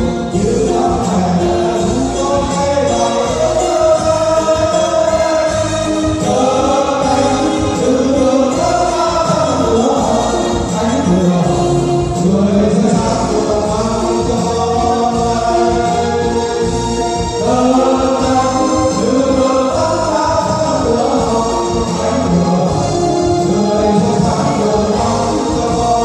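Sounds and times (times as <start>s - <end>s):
instrumental accompaniment: 0.0s - 26.0s.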